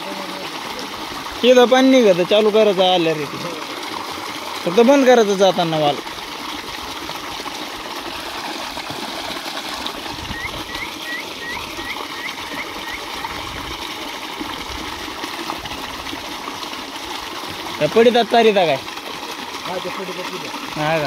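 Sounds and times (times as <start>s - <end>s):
water running into trough: 0.0s - 21.0s.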